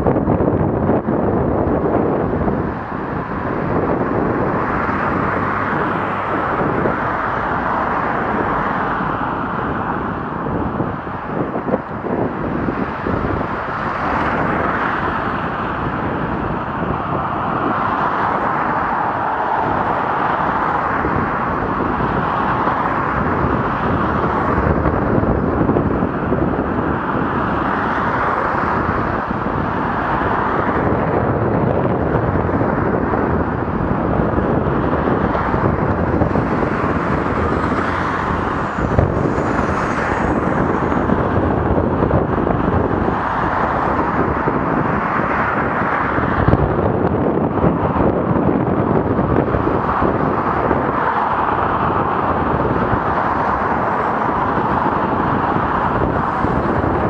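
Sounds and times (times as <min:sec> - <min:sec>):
road and traffic noise: 0:00.0 - 0:57.0
wind rushing over microphone: 0:00.0 - 0:57.0.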